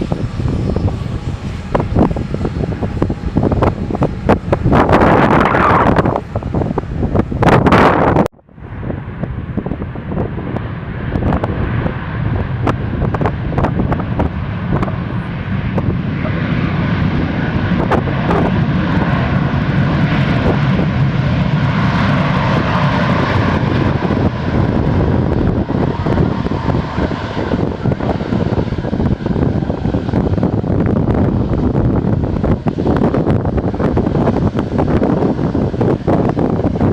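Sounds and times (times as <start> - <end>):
jet engines rumbling and whining: 0.0 - 36.9
wind buffeting microphone: 0.0 - 36.9.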